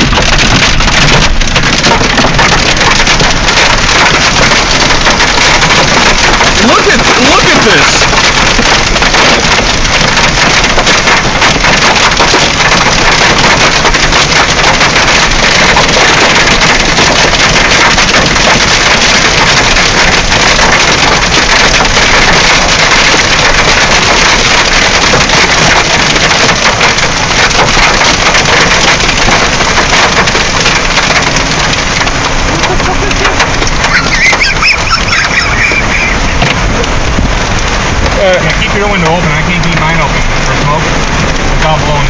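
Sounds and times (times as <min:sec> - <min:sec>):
hail pelting car roof: 0:00.0 - 0:42.0.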